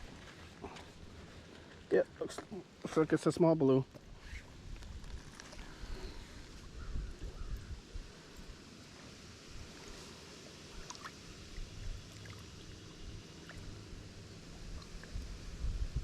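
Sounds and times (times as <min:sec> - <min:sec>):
faint river water: 0:00.0 - 0:16.0.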